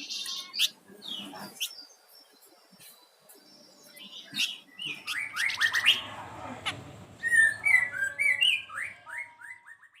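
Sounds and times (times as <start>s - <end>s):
songbird singing: 0.0s - 10.0s.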